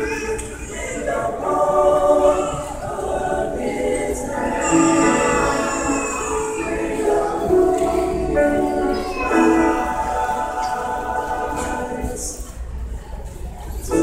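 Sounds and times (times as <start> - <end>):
mixed choir singing: 0.0 - 13.0.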